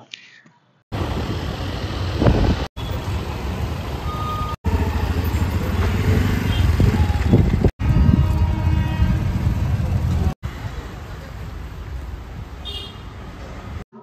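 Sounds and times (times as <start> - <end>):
road traffic passing: 0.9 - 13.9.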